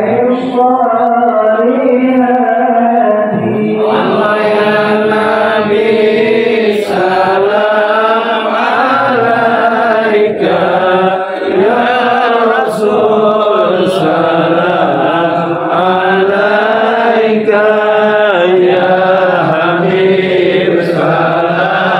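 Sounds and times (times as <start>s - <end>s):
voices chanting melodically: 0.0s - 21.9s.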